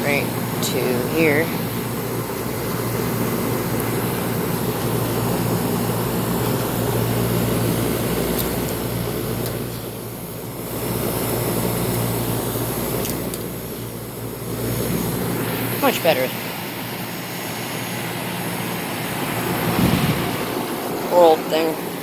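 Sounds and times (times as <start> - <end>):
compressor humming: 0.0 - 22.0
condenser fan noise: 0.0 - 22.0.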